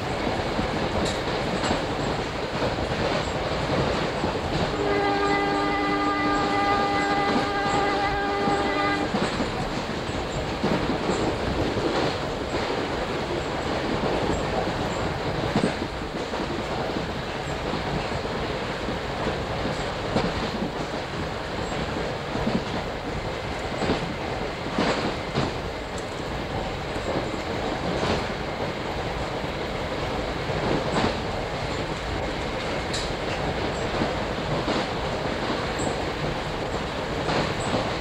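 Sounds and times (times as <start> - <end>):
train wheels rumbling: 0.0 - 38.0.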